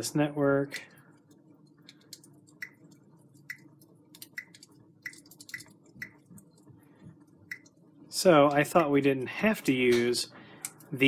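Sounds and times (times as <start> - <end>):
low steady hum: 0.0 - 11.0
fire crackling on tv: 0.8 - 10.3.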